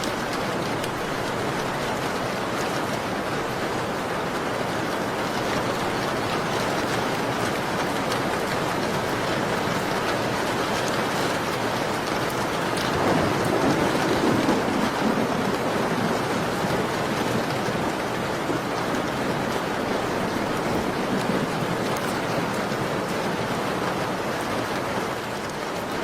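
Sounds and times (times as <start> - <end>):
raindrops ticking: 0.0 - 26.0
steady rain falling: 0.0 - 26.0.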